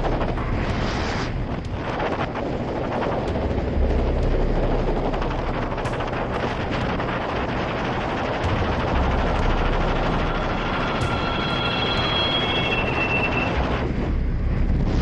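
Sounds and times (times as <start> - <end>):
aircraft engine drone: 0.0 - 15.0
wind buffeting microphone: 0.0 - 15.0.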